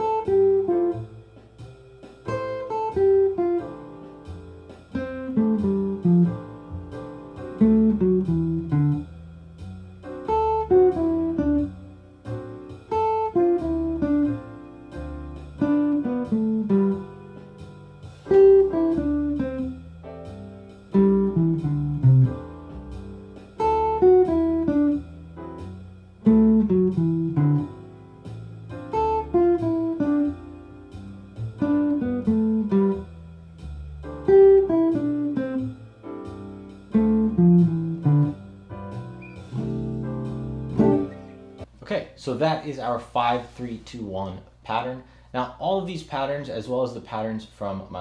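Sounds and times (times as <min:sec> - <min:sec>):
jazz guitar playing: 0:00.0 - 0:41.7
steady bass: 0:00.0 - 0:41.8.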